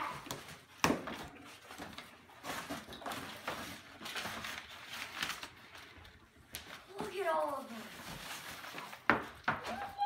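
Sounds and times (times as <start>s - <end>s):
plastic and paper rustling: 0.0s - 10.0s.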